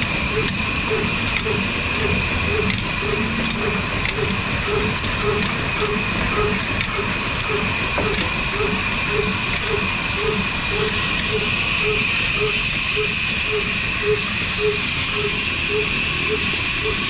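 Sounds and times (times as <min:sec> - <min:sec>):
diesel engine running: 0:00.0 - 0:17.0
hiss: 0:00.0 - 0:17.0
steady high whine: 0:00.0 - 0:17.0.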